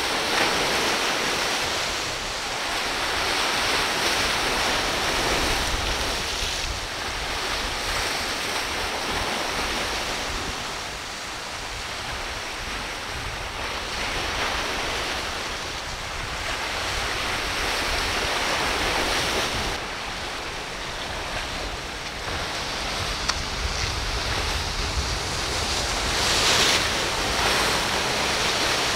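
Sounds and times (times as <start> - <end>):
ocean surf breaking: 0.0 - 28.9
wind buffeting microphone: 0.0 - 28.9.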